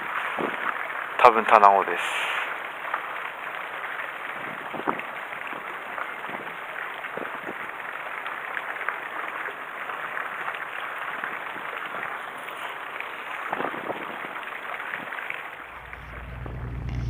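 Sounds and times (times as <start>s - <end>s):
water lapping against concrete: 0.0s - 16.2s.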